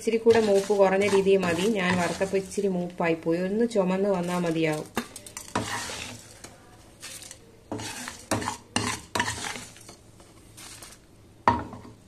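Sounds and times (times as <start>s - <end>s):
spoon scraping a pan: 0.0s - 3.0s, 3.9s - 11.0s
hot oil sizzling: 0.0s - 3.2s, 3.8s - 11.0s.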